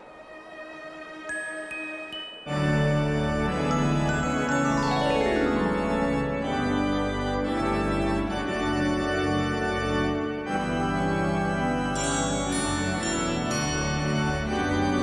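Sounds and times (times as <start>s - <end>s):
church organ playing: 2.4s - 15.0s.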